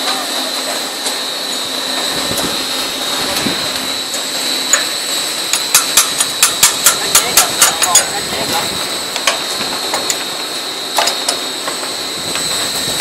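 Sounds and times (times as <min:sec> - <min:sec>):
pipe machine whirring hiss: 0:00.0 - 0:13.0.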